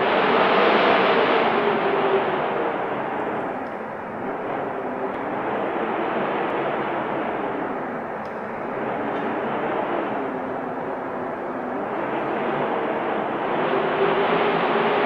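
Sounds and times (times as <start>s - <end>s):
wind blowing: 0.0s - 15.0s.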